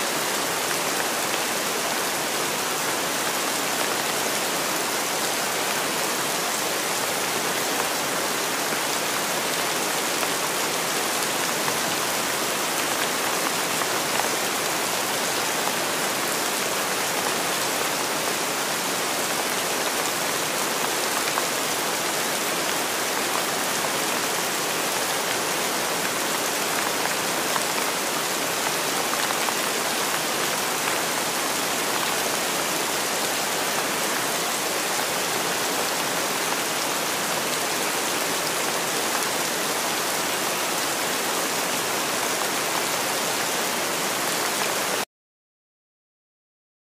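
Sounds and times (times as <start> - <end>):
steady rain falling: 0.0 - 45.1.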